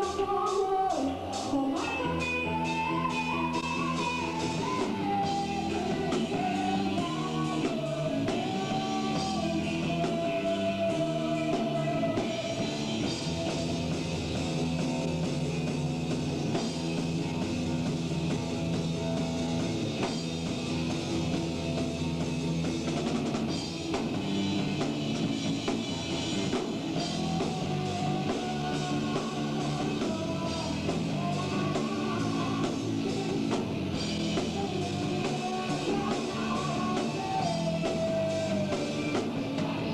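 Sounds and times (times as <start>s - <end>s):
drum kit: 0.0s - 39.9s
rock band playing live: 0.0s - 39.9s.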